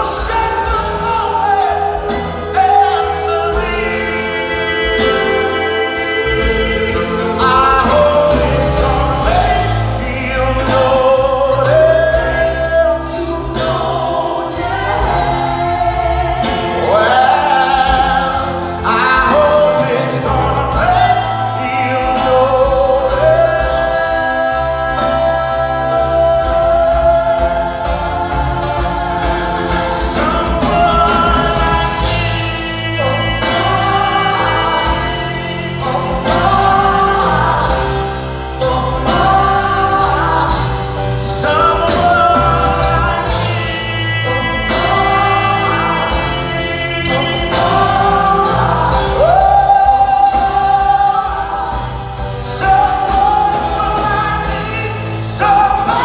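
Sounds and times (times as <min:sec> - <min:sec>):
drums: 0:00.0 - 0:56.0
group of people singing: 0:00.0 - 0:56.0
piano: 0:00.0 - 0:56.0
upright bass: 0:00.0 - 0:56.0.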